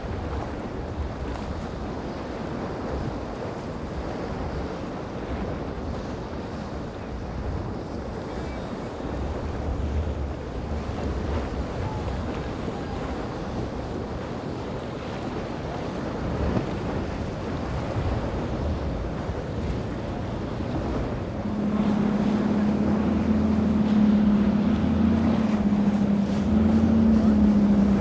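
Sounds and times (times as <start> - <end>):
outboard motor boat passing: 0.0 - 28.0
sea noise: 0.0 - 28.0
wind on microphone: 0.0 - 28.0.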